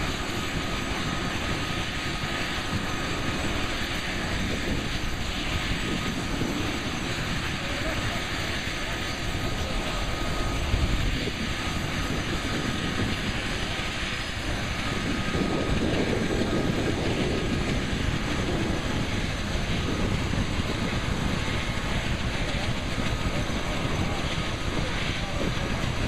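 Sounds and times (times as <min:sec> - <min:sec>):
helicopter engines and rotors running: 0:00.0 - 0:26.0.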